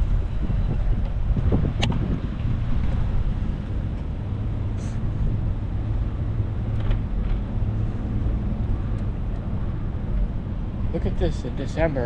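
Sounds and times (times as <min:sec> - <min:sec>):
wind on the microphone: 0:00.0 - 0:11.0
road traffic rumble: 0:00.0 - 0:12.0.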